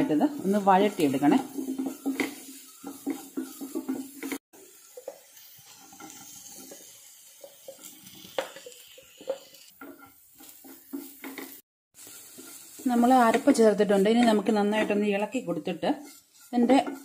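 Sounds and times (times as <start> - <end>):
onions sizzling in oil: 0.0 - 17.0
wooden spatula scraping pan: 0.0 - 17.0.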